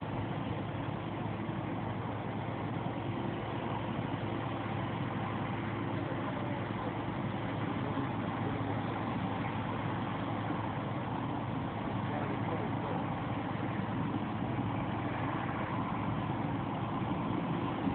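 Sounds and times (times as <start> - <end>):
combine harvester droning: 0.0 - 17.9.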